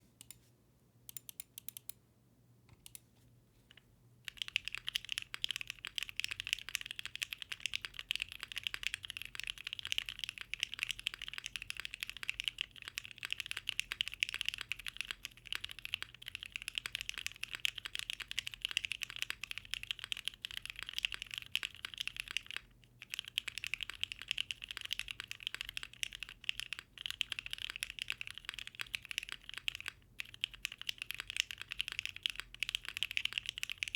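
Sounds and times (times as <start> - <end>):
typing on mechanical keyboard: 4.3 - 33.9.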